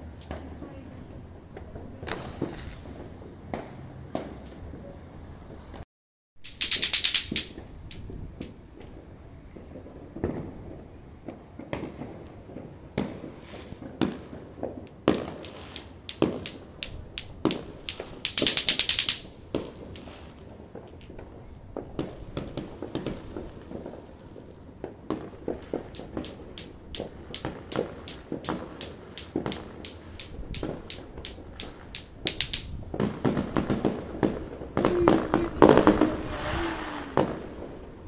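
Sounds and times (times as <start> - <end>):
fireworks bangs and pops: 1.4 - 4.7, 6.5 - 38.0
loud crackling firework bursts: 1.6 - 4.4, 10.2 - 38.0.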